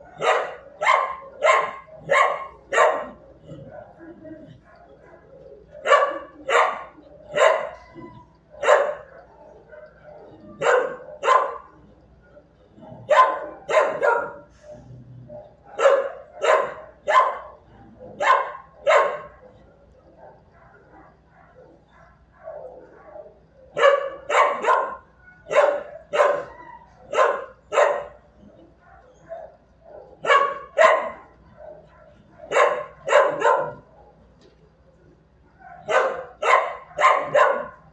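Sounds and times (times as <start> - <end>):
dog barking: 0.0 - 34.4, 35.5 - 37.9.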